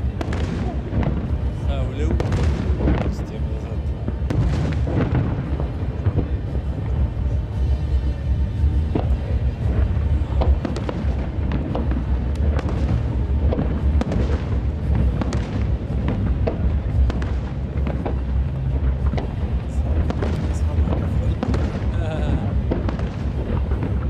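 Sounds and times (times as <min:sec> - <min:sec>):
fireworks cracking and popping: 0:00.0 - 0:24.0
low booming rumble: 0:00.0 - 0:24.0.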